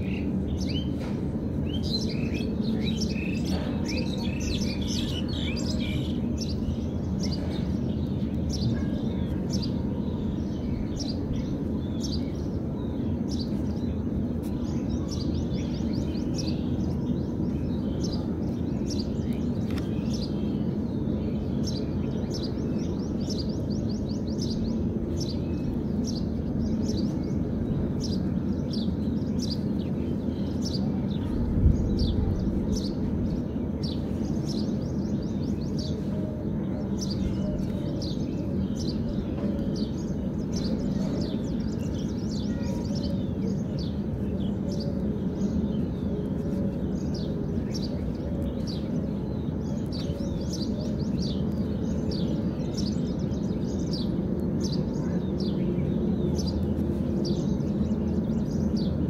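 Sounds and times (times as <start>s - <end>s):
low background noise: 0.0s - 59.0s
small birds chirping: 0.0s - 59.0s.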